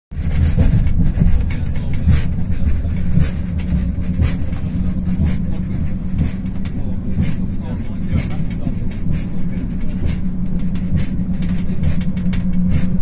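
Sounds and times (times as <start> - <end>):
train interior rumble: 0.1 - 13.0
pulsing hiss: 0.2 - 13.0.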